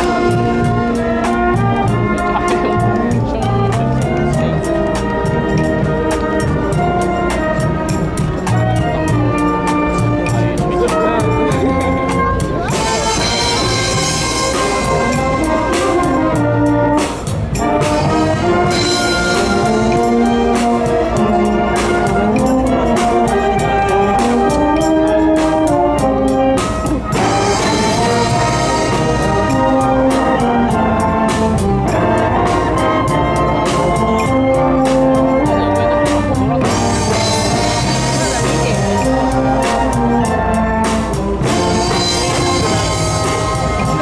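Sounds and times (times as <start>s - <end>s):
brass band tune: 0.0s - 44.0s
drum kit beat: 0.0s - 44.0s.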